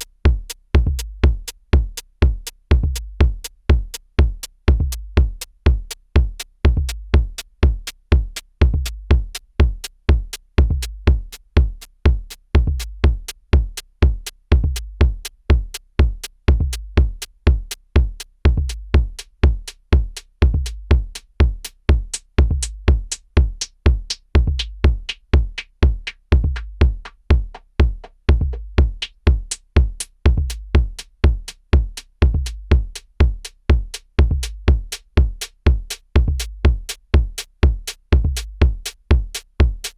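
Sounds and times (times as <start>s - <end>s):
deep kick drum: 0.0s - 39.9s
hi-hat ticks: 0.0s - 39.9s.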